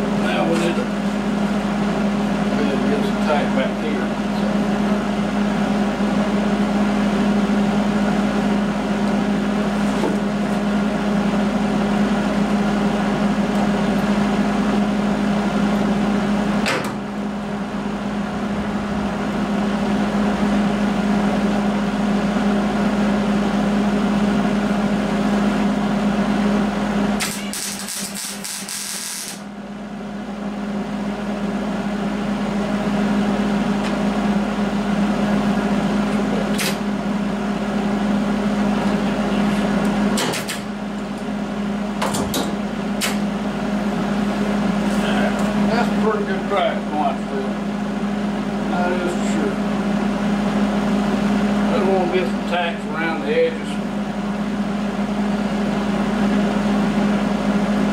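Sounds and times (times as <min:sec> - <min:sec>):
loud machine hum: 0:00.0 - 0:57.9.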